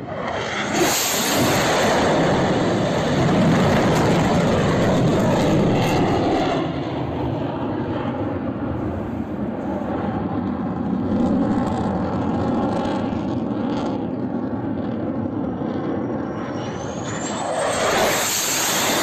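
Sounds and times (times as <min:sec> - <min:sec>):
fighter jet engine roar: 0:00.0 - 0:19.0.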